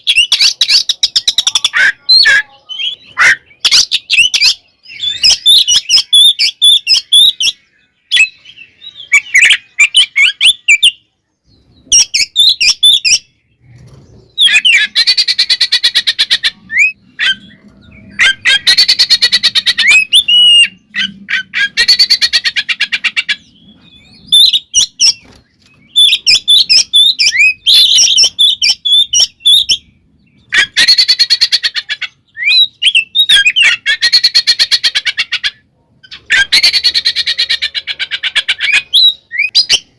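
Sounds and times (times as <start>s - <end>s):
songbird whistling and rattling: 0.0s - 11.0s, 11.6s - 35.5s, 36.1s - 39.9s.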